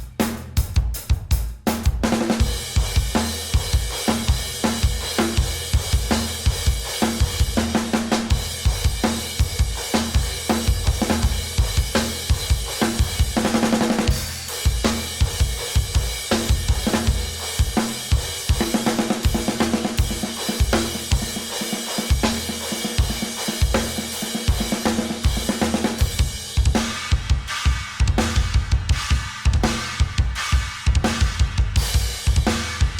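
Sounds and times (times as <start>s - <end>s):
hi-hats and cymbals: 0.0s - 32.9s.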